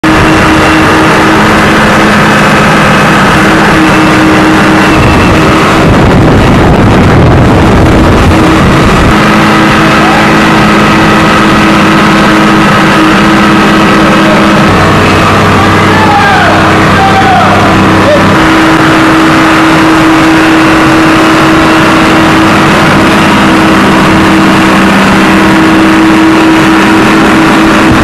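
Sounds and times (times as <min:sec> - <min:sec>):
tow tractor diesel engine running: 0:00.0 - 0:28.0.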